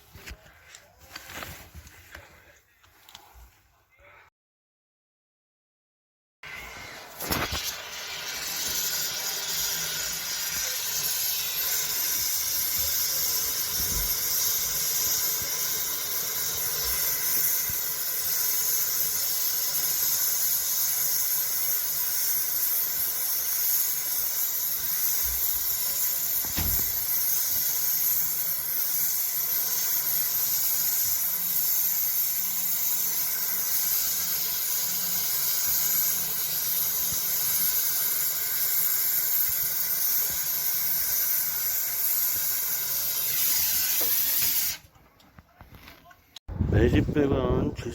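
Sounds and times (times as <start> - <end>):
gas hissing through piping: 6.4 - 44.9.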